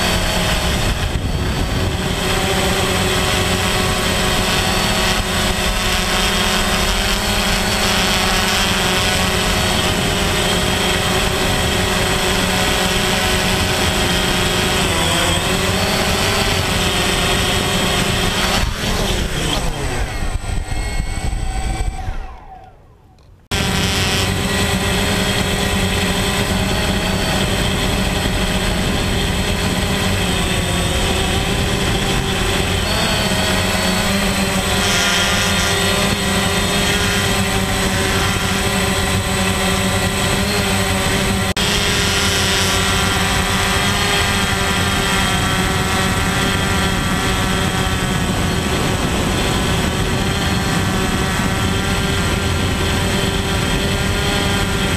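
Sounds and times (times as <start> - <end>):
quadcopter propellers whining: 0.0 - 54.9.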